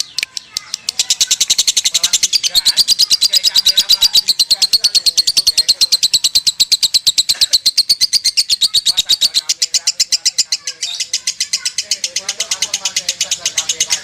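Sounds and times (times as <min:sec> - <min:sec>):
lovebird trilling: 0:00.0 - 0:14.0.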